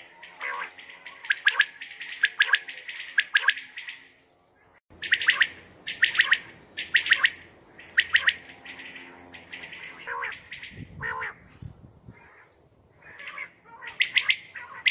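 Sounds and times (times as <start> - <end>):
quail calling: 0.0 - 4.1, 5.0 - 11.5, 12.1 - 14.9.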